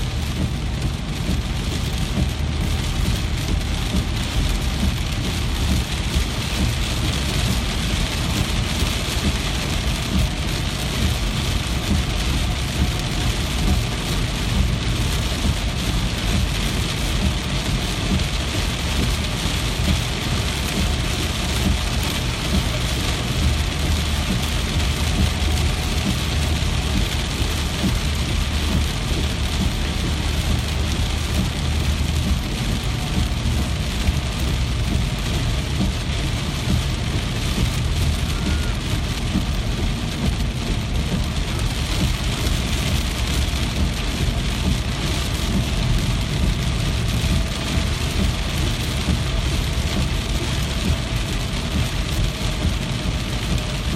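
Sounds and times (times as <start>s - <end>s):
deep low rumble: 0.0s - 53.9s
heavy rain falling: 0.0s - 53.9s.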